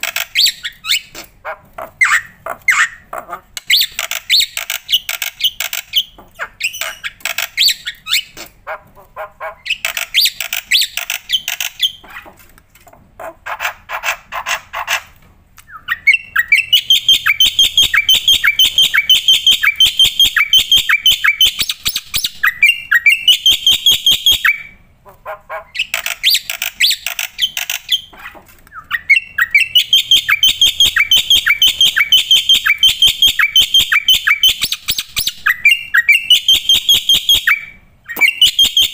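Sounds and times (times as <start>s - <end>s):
bird singing harsh chattering notes: 1.9s - 8.6s, 9.5s - 12.3s, 15.7s - 24.8s, 25.7s - 38.9s.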